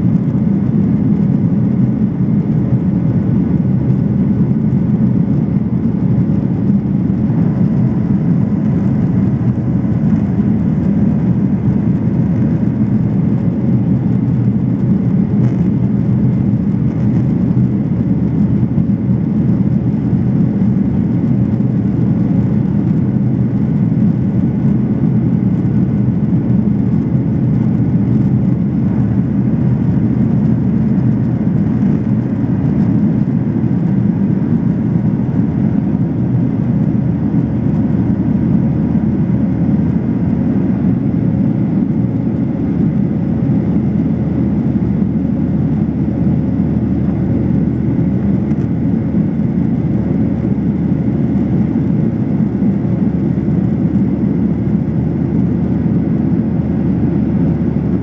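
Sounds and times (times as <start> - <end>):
airplane cabin low rumble: 0.0 - 58.0
faint steady hum: 0.0 - 58.0.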